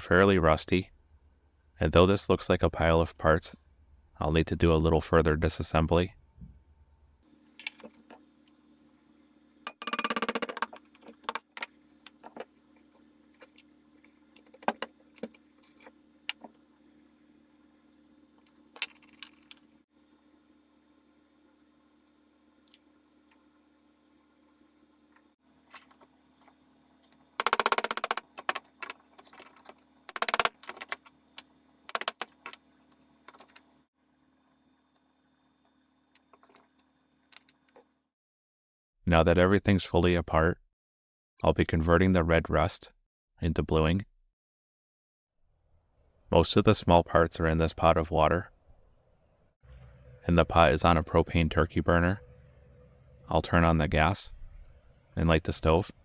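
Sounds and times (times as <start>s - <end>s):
faint steady hum: 0.0s - 38.0s, 45.5s - 56.0s.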